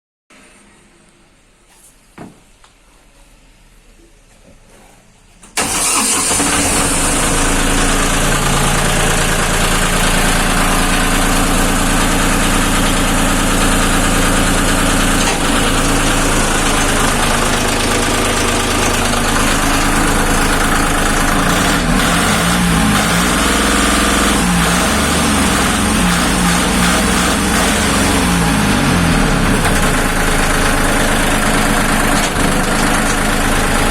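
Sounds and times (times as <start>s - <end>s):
diesel engine starting and running: 5.3s - 33.9s.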